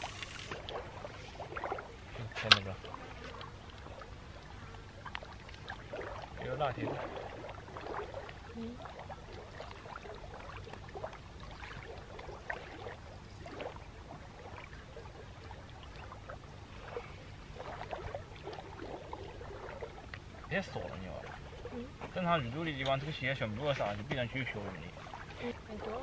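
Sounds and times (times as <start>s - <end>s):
lake water lapping at shore: 0.0s - 26.0s.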